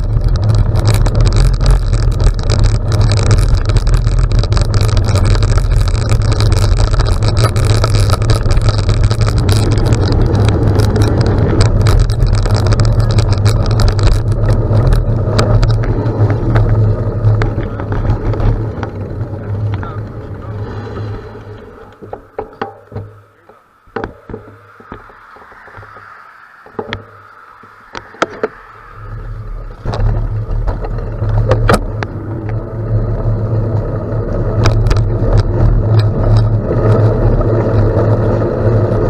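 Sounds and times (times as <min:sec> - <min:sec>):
tyres crackling over gravel: 0:00.0 - 0:39.0
wind rumbling on microphone: 0:00.0 - 0:39.0.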